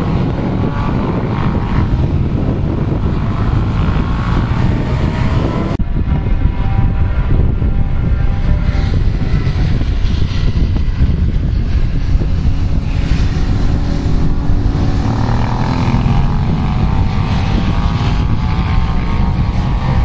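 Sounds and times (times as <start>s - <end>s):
motorcycle engines racing: 0.0s - 20.0s
wind rumble on microphone: 0.0s - 20.0s.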